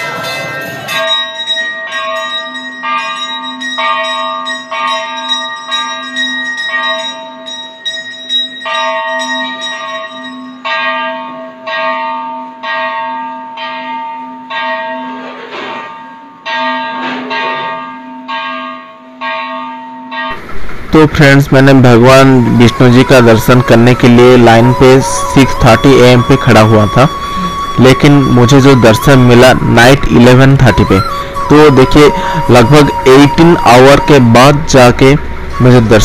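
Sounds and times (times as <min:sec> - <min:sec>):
temple bells ringing: 0:00.0 - 0:36.0.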